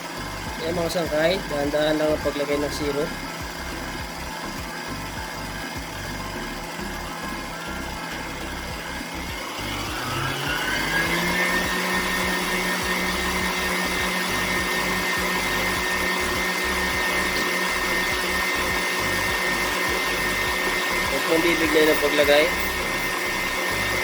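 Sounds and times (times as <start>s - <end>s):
stand mixer motor whirring: 0.0s - 24.0s.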